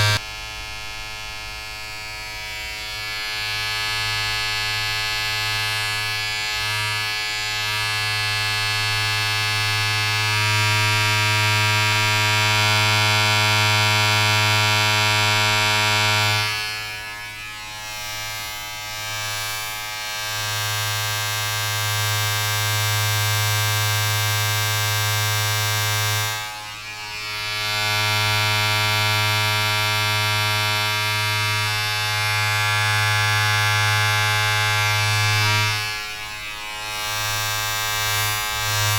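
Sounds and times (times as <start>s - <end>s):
electric appliance buzzing: 0.0s - 38.9s.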